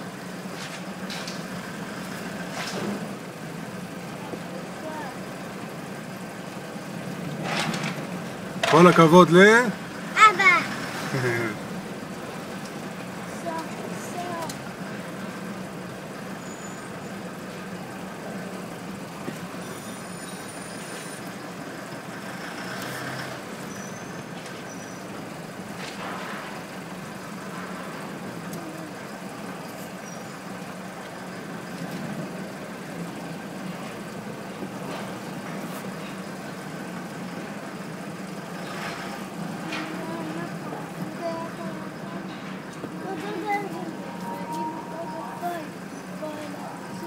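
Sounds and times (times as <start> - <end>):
engine hum inside vehicle: 0.0 - 26.0, 26.6 - 47.0.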